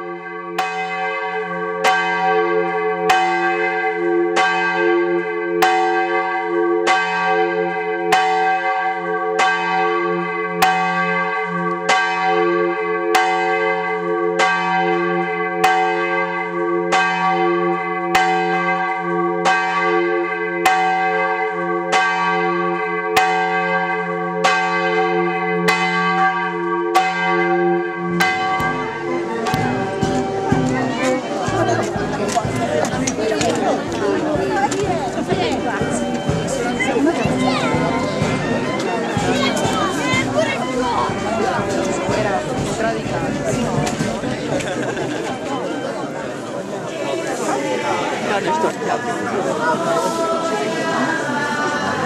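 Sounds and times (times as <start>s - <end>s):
church bell ringing: 0.0s - 44.4s.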